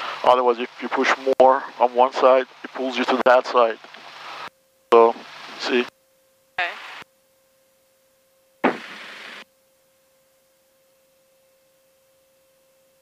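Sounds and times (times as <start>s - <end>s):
faint steady tone: 0.0s - 13.0s.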